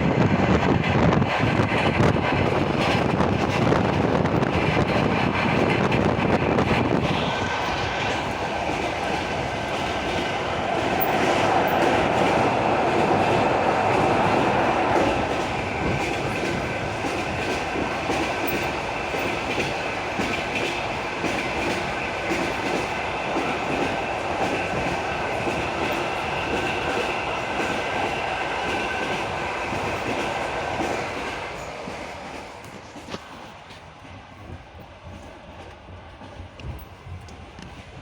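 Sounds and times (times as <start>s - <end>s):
train rumble: 0.0s - 38.0s
train wheels clicking over rail joints: 0.6s - 38.0s.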